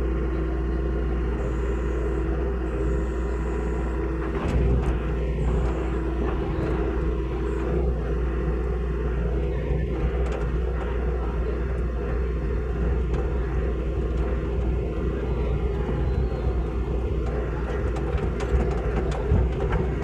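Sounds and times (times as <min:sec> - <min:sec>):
excavator diesel engine rumbling: 0:00.0 - 0:20.0.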